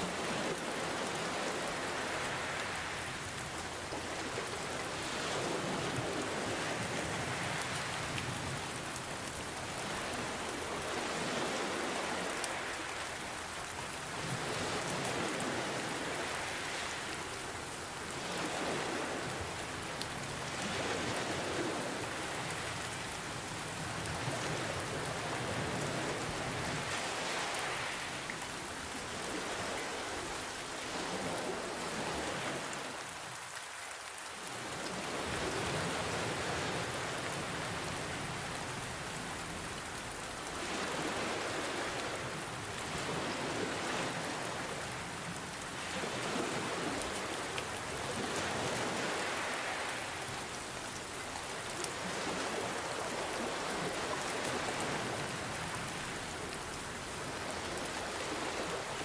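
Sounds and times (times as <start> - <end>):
gentle ocean waves: 0.0 - 59.0
steady rain: 0.0 - 59.0.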